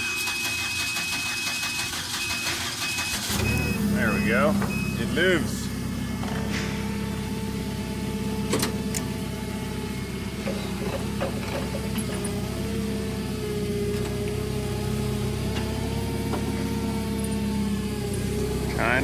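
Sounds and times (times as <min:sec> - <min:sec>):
forklift engine running: 0:00.0 - 0:19.0.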